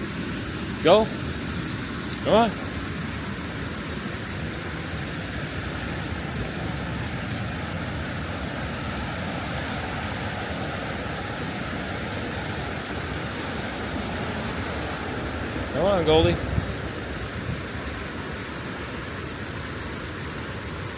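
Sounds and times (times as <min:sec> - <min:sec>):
waterfall and river rushing: 0:00.0 - 0:20.9.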